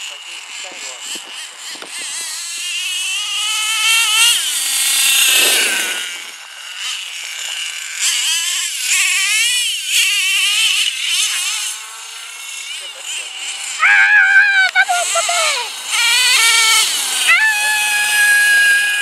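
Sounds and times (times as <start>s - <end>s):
nitro engine whine revving: 0.0s - 19.0s.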